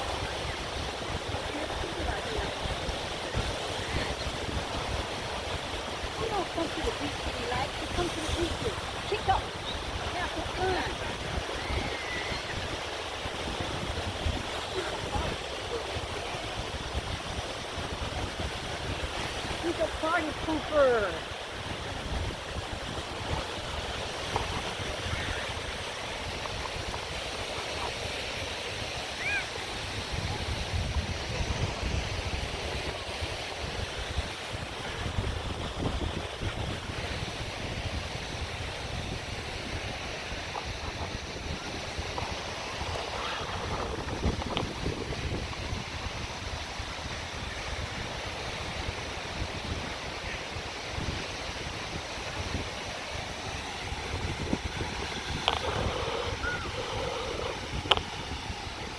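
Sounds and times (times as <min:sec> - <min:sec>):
surf on a beach: 0:00.0 - 0:58.9
wind buffeting microphone: 0:00.0 - 0:58.9.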